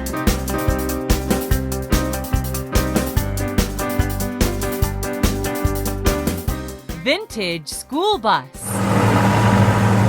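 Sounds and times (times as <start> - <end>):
upbeat music with steady beat: 0.0 - 8.5.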